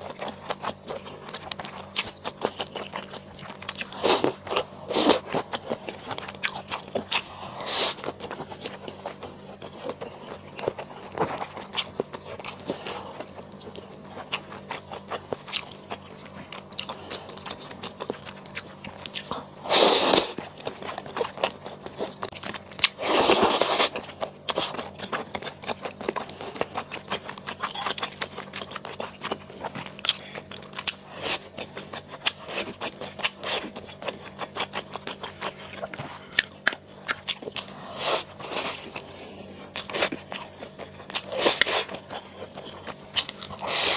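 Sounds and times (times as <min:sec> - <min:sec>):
chewing and crunching: 0:00.0 - 0:43.9.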